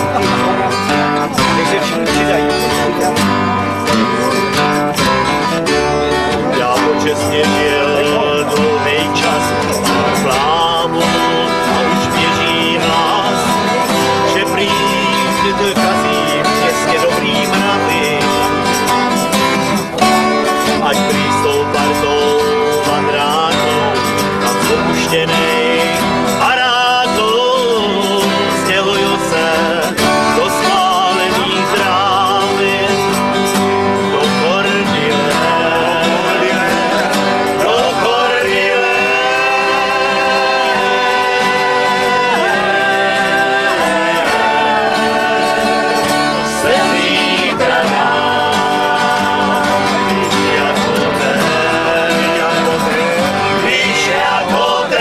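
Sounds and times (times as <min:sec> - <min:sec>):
acoustic guitar and strings: 0:00.0 - 0:55.0
person singing: 0:00.0 - 0:55.0.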